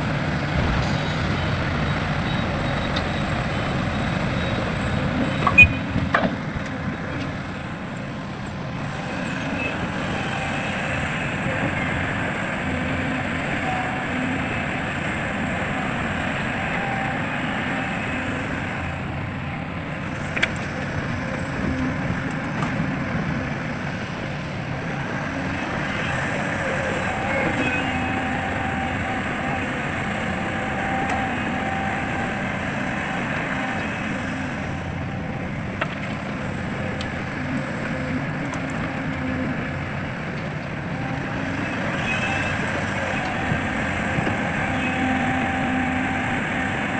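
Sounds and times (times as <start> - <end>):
diesel machinery running: 0.0 - 46.9.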